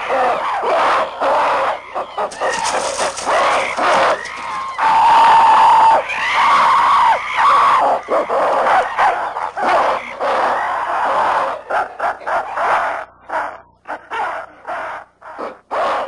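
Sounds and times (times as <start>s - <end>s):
apes screaming and shrieking: 0.0s - 16.0s.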